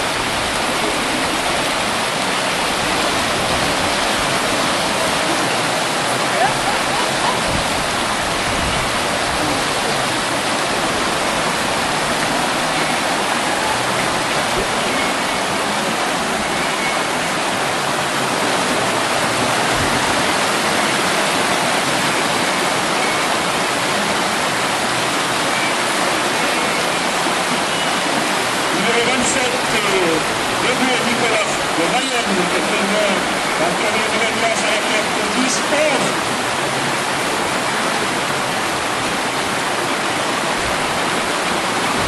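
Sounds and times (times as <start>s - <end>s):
whitewater rapids rushing: 0.0s - 42.0s.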